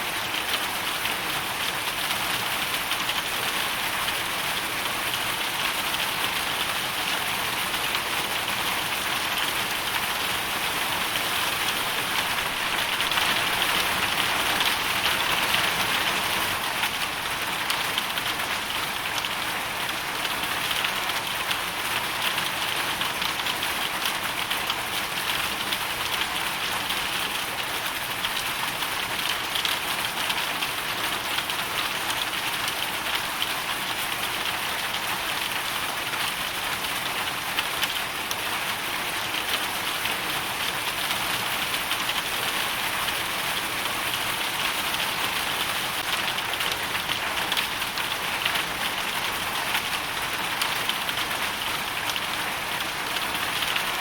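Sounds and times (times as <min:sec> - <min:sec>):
hail and rain pattering: 0:00.1 - 0:54.0.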